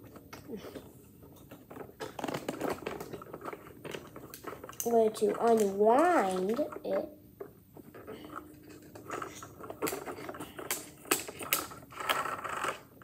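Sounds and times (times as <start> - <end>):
wooden toy parts clicking: 0.0 - 13.0.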